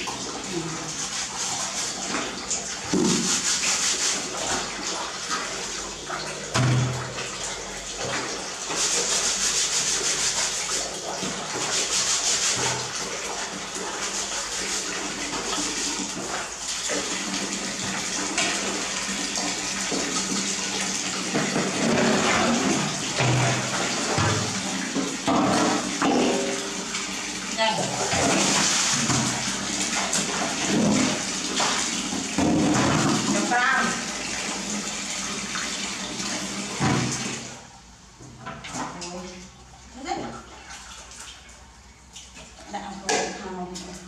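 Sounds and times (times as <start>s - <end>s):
hands scrubbing laundry in water: 0.0s - 37.7s, 38.3s - 44.0s.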